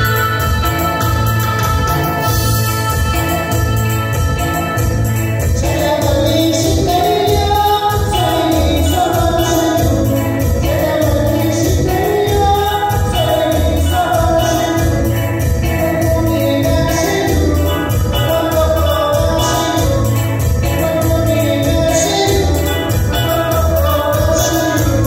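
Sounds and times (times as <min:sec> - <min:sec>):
keyboard with rhythm accompaniment: 0:00.0 - 0:25.0
man singing into a microphone: 0:00.0 - 0:25.0.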